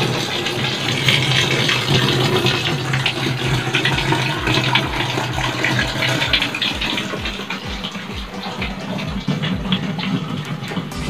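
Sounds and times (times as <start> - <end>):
water pouring from a hose: 0.0 - 11.0.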